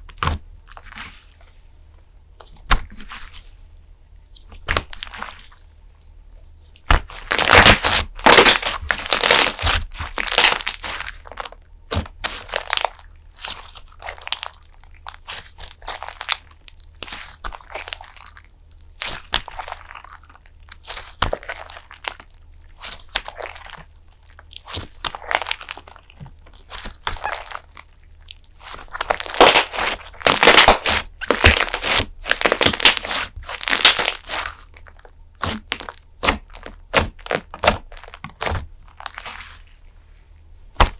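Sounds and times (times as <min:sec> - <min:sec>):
slime crackling and popping: 0:06.8 - 0:40.9.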